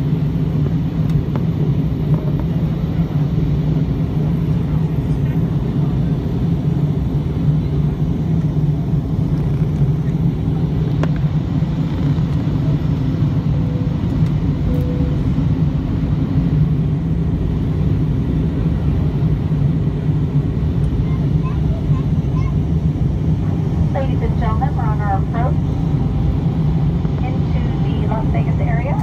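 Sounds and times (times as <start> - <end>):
aircraft cabin drone in flight: 0.0 - 29.0.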